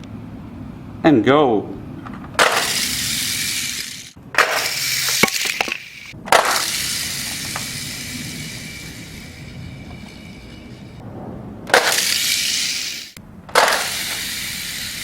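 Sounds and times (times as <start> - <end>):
toy cars clattering down plastic ramps: 2.1 - 11.0, 11.7 - 15.0.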